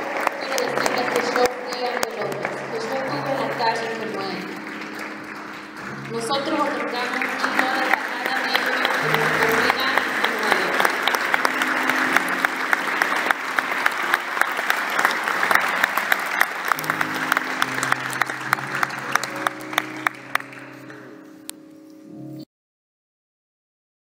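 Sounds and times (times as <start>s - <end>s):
audience applauding: 0.0s - 21.1s.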